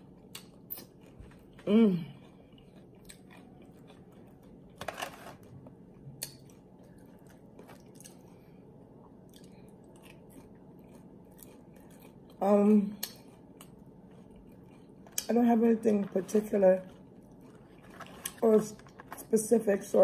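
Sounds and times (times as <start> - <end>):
chewing crunchy chips: 0.0 - 19.9.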